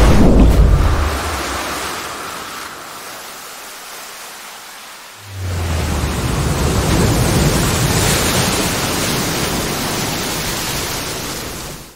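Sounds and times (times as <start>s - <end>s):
waves breaking over rocks: 0.0s - 11.9s.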